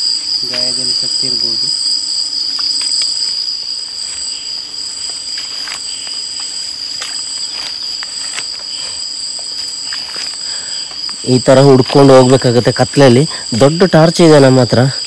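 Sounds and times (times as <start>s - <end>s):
rustling through undergrowth: 0.0s - 12.6s
insect chorus shrilling: 0.0s - 15.0s.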